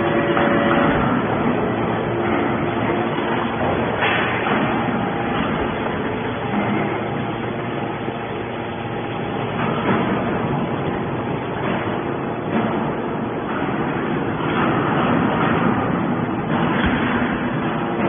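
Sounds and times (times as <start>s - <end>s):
scrap metal baler running: 0.0s - 18.0s.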